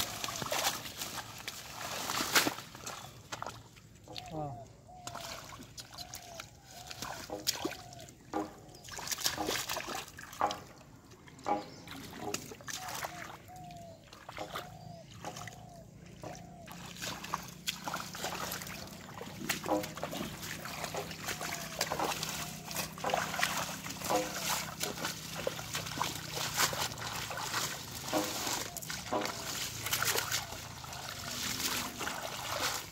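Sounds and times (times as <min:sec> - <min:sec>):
muddy water splashing: 0:00.0 - 0:32.9.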